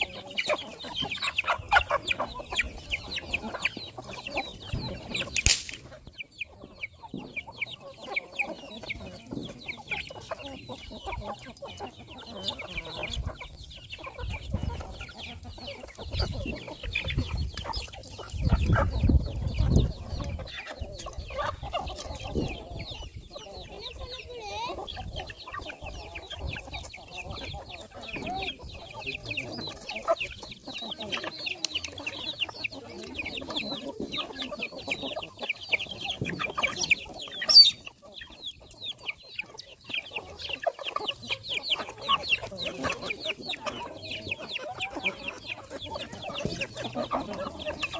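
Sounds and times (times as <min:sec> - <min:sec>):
chickens clucking: 0:00.0 - 0:47.9
high-pitched chick calls: 0:00.0 - 0:47.9.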